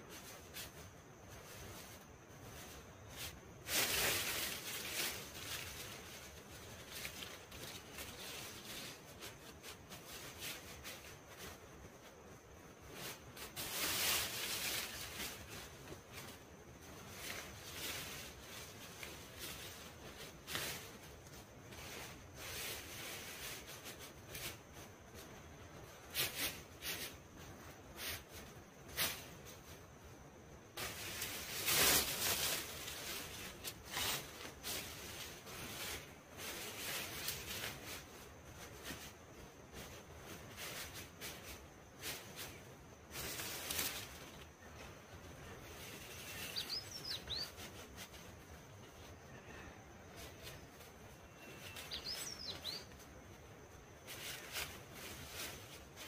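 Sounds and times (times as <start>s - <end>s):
leafy branches rustling: 0.0s - 56.0s.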